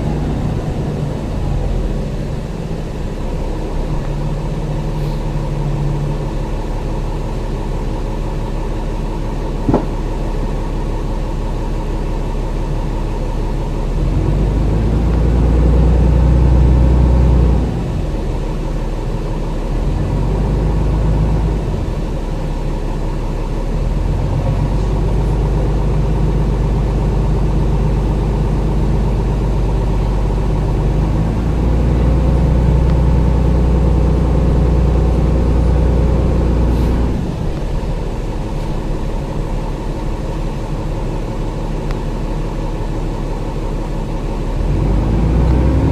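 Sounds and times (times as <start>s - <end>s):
bus engine under load: 0.0s - 45.9s.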